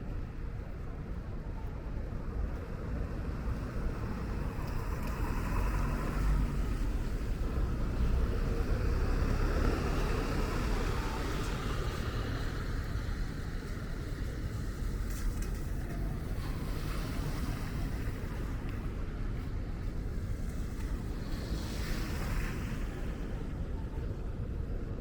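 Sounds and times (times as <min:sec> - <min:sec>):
low traffic rumble: 0:00.0 - 0:25.0
tyre hiss of passing vehicles: 0:02.7 - 0:23.7.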